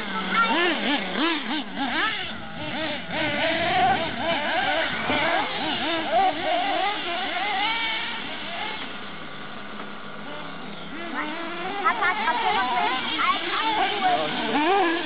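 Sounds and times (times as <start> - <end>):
small nitro engines revving: 0.0 - 15.0.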